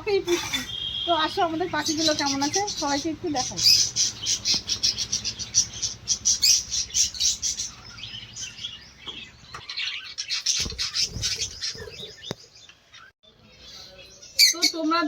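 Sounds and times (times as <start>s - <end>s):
budgerigars chirping: 0.2s - 15.0s.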